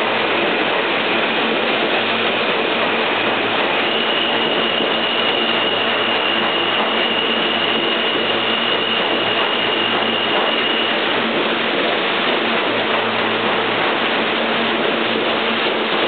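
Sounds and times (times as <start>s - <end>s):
subway train rumbling on rails: 0.0s - 16.0s
thin high whine: 0.0s - 16.0s.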